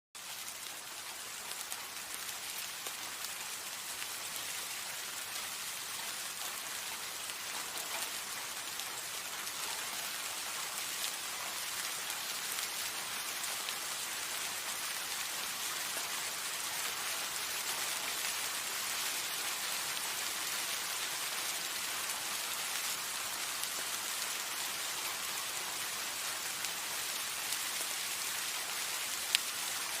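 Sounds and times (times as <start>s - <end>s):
steady rain falling: 0.2s - 30.0s.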